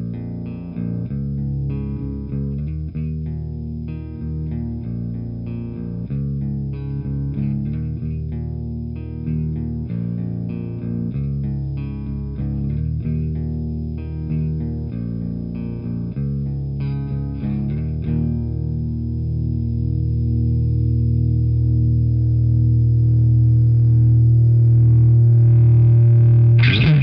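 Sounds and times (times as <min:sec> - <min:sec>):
electric guitar riff: 0:00.0 - 0:27.0.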